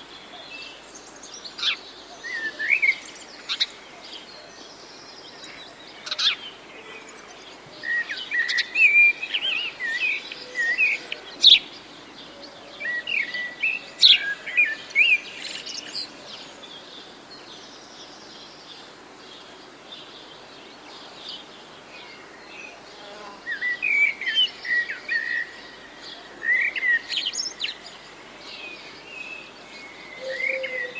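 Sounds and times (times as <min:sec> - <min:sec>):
faint steady hiss: 0:00.0 - 0:30.9.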